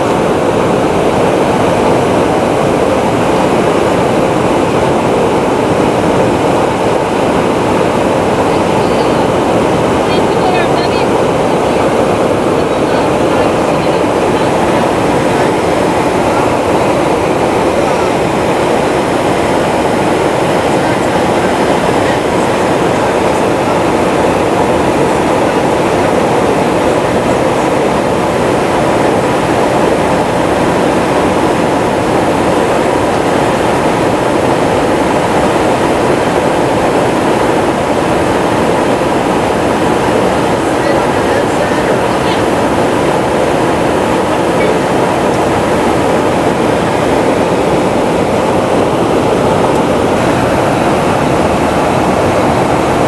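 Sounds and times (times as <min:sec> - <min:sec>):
air rushing past aircraft: 0:00.0 - 0:53.0
aircraft engines droning: 0:00.0 - 0:53.0.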